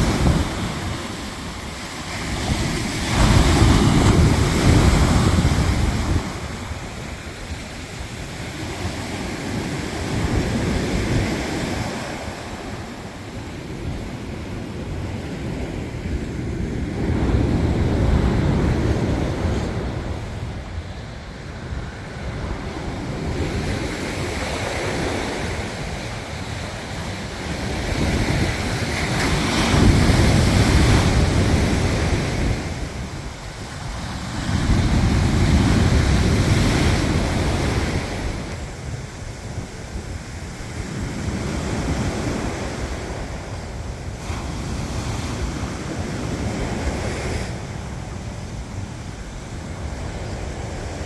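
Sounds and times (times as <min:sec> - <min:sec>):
sea waves breaking on beach: 0:00.0 - 0:51.0
wind rumble on microphone: 0:00.0 - 0:51.0.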